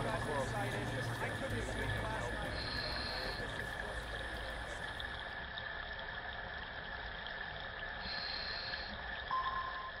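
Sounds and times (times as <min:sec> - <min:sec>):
watery rushing: 0:00.0 - 0:09.3.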